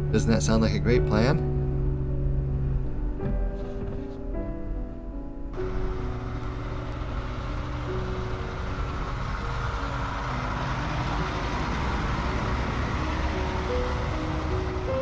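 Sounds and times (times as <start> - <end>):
background music: 0.0 - 15.0
vehicle engine and road noise: 0.0 - 15.0.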